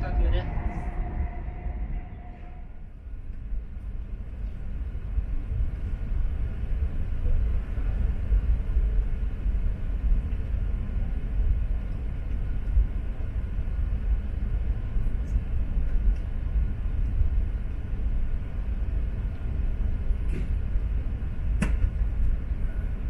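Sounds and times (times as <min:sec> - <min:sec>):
low rumble of a train: 0:00.0 - 0:23.0.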